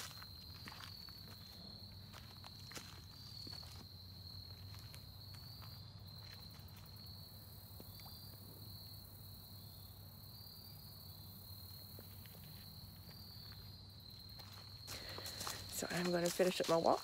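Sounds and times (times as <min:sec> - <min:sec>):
insect chorus trilling: 0:00.0 - 0:17.0.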